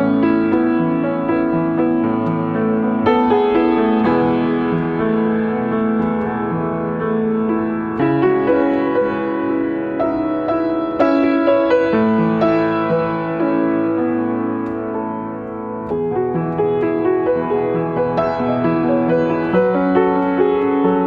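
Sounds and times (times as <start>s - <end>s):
upright piano played slowly: 0.0s - 21.0s.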